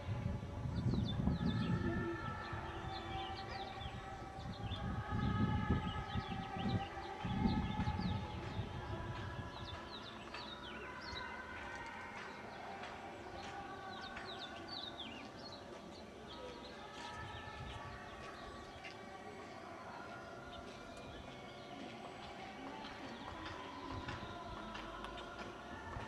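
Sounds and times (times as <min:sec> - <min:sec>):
small birds chirping: 0:00.8 - 0:25.7.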